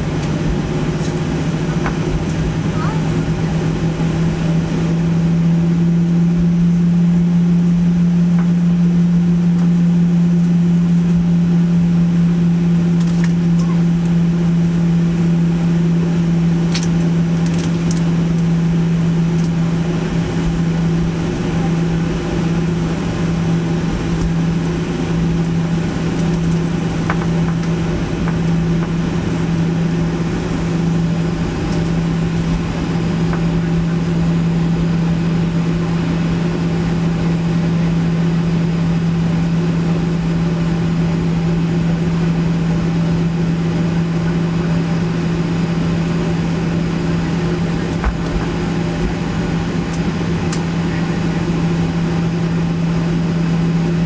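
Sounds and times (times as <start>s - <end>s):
constant cabin hum: 0.0s - 54.0s
jet engines idling drone: 0.0s - 54.0s.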